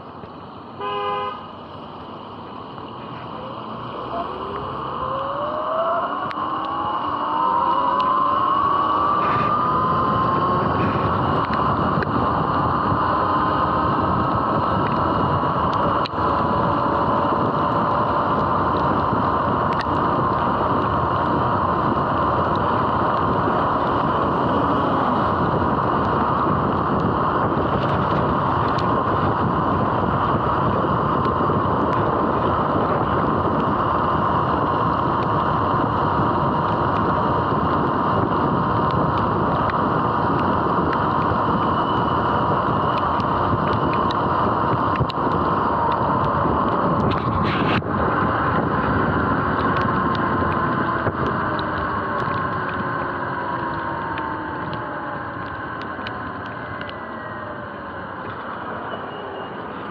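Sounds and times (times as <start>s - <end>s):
heavy wind noise: 0.0s - 59.9s
wet tyre noise: 0.0s - 59.9s
electric motor whine: 3.1s - 58.9s.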